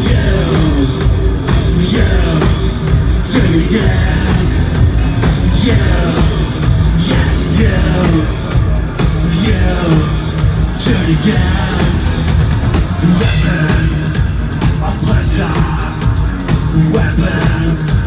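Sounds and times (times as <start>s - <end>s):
live electro-industrial band music: 0.0s - 18.0s.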